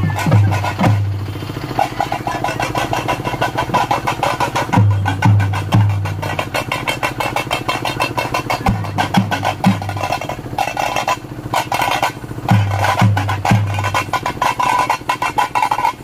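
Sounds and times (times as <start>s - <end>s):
frame drums beaten fast: 0.0s - 16.0s.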